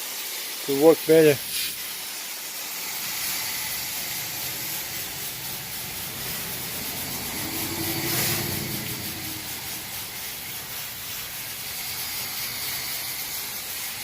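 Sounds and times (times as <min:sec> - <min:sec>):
water spraying from hose: 0:00.0 - 0:14.0.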